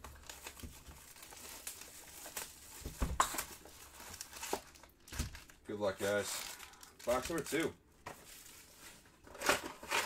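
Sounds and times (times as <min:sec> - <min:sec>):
shrink wrap crinkling and tearing: 0:00.0 - 0:10.0.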